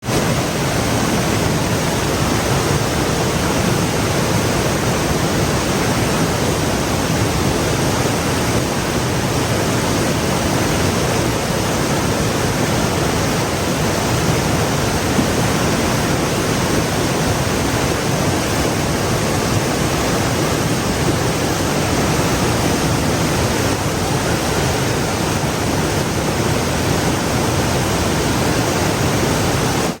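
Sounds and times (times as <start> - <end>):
stream water flowing and splashing: 0.0 - 30.0.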